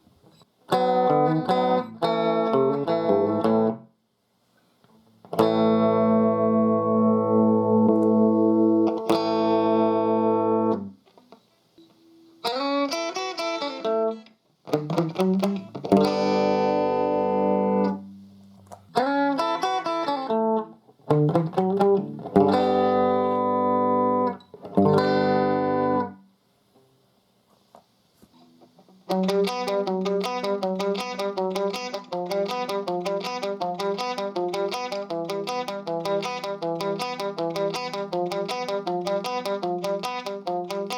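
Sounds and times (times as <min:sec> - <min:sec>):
electric guitar strummed chords: 0:00.7 - 0:03.8, 0:05.3 - 0:11.0, 0:12.0 - 0:18.3, 0:18.9 - 0:26.2, 0:29.0 - 0:40.9.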